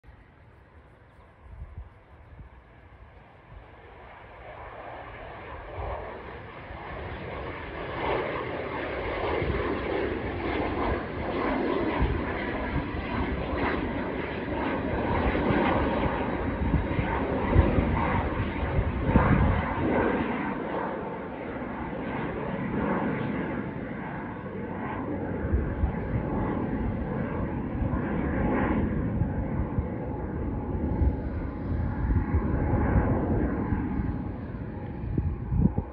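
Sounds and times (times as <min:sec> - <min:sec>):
jet engines rushing: 0:00.1 - 0:35.9.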